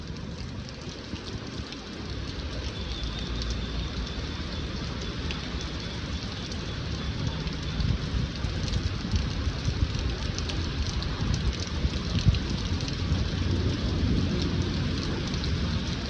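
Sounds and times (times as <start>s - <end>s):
rain drops ticking: 0.0s - 16.0s
traffic rumble: 0.0s - 16.0s.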